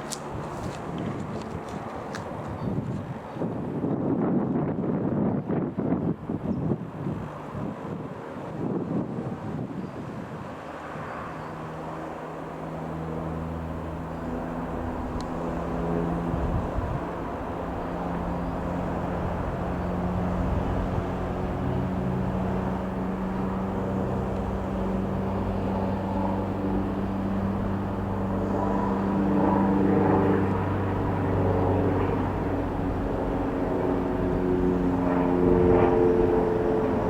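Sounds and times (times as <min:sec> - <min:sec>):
light aircraft engine droning: 0:00.0 - 0:37.0.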